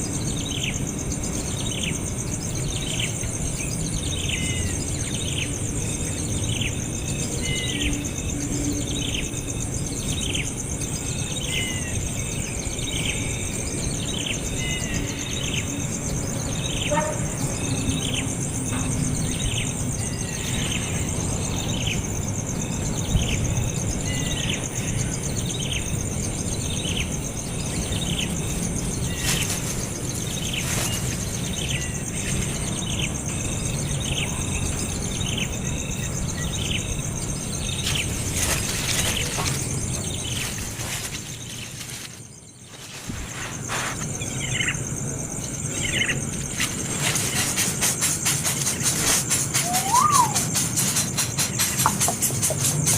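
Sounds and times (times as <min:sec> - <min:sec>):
bird chirping: 0:00.0 - 0:52.9
high-pitched insect trill: 0:00.0 - 0:52.9.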